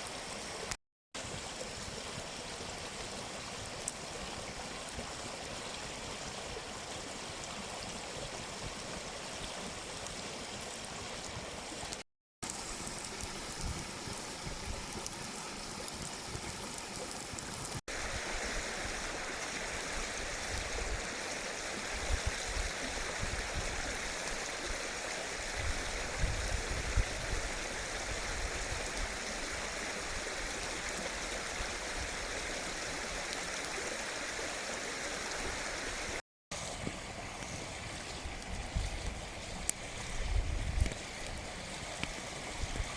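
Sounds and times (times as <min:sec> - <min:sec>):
stream rushing and gurgling: 0:00.0 - 0:42.9.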